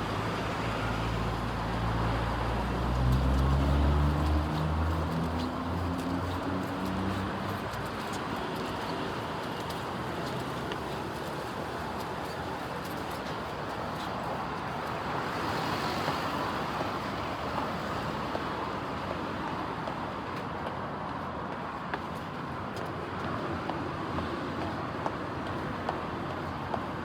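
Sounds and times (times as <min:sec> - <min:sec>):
passing traffic: 0:00.0 - 0:27.0.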